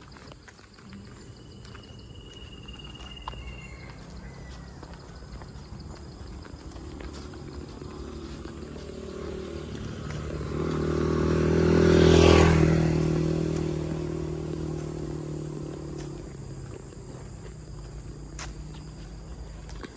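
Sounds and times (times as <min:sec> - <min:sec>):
motor vehicle driving past: 0:00.9 - 0:19.9.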